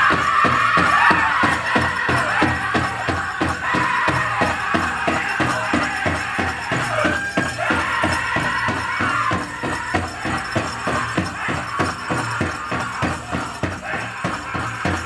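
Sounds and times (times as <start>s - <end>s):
big drum beating: 0.0s - 15.0s.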